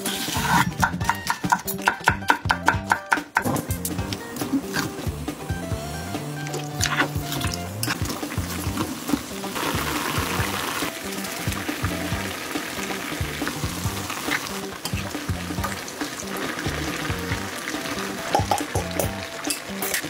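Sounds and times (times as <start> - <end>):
stew bubbling and sizzling in pan: 0.0 - 2.6, 3.4 - 20.0
background music with bass line: 0.0 - 20.0.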